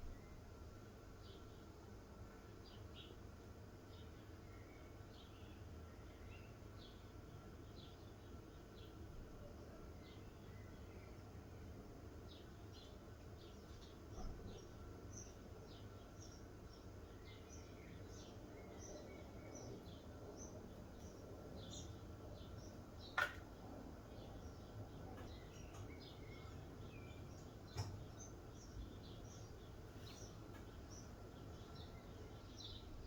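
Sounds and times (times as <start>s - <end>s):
low background hum: 0.0s - 33.0s
small birds chirping: 3.8s - 33.0s.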